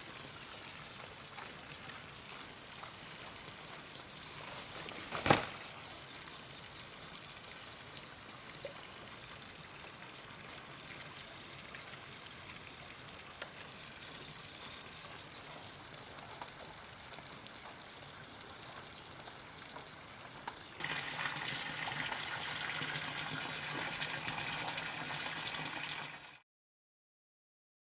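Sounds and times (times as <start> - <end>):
running water: 0.0 - 26.4.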